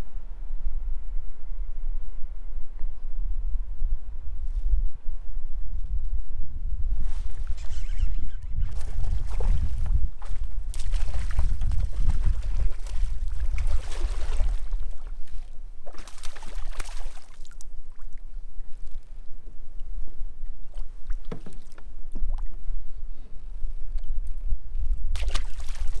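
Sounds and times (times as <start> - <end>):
constant low rumble: 0.0 - 26.0.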